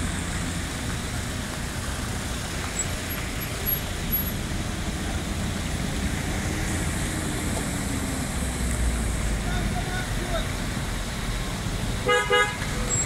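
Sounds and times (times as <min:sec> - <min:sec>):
road traffic idling and moving: 0:00.0 - 0:13.0.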